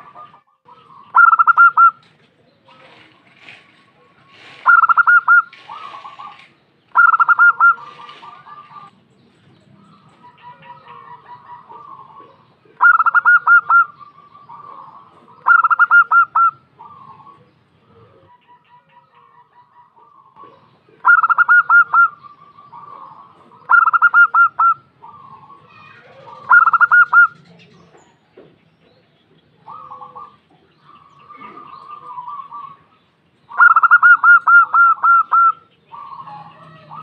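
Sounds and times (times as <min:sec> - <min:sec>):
dove cooing: 0:00.0 - 0:03.3, 0:03.9 - 0:09.0, 0:09.8 - 0:28.0, 0:28.8 - 0:37.0.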